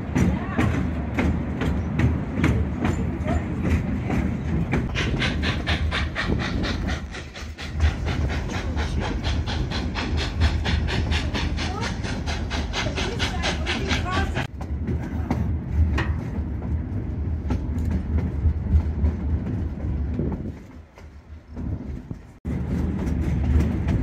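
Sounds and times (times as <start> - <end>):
steam train running: 0.0 - 24.0.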